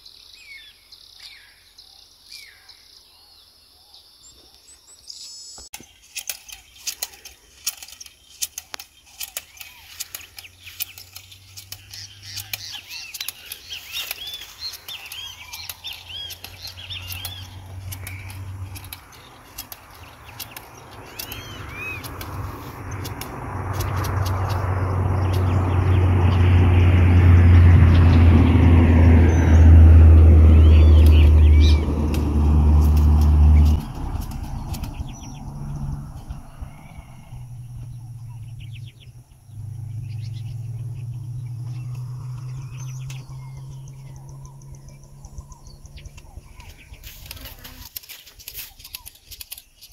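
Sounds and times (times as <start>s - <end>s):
birds chirping: 0.0s - 49.9s
low engine hum: 6.6s - 47.9s
vehicle engine droning: 6.8s - 47.9s.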